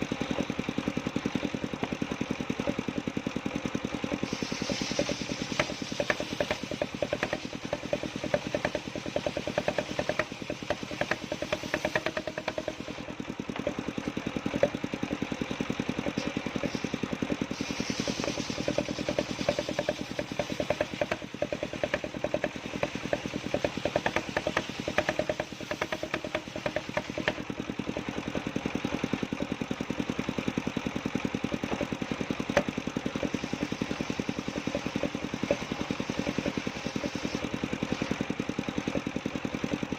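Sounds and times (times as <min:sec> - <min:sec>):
saw engine chugging: 0:00.0 - 0:39.9.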